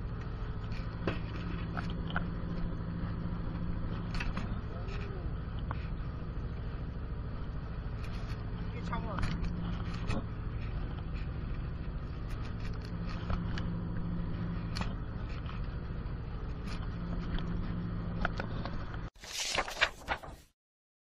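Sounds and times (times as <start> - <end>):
boat engine droning: 0.0 - 19.1.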